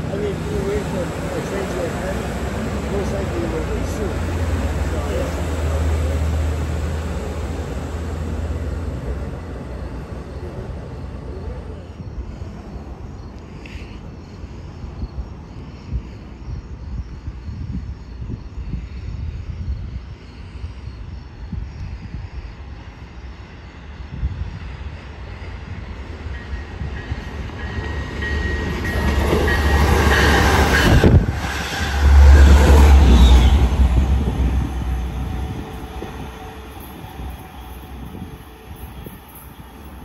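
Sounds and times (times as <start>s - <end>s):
train wheels rumbling on rails: 0.0s - 14.2s, 17.0s - 40.0s.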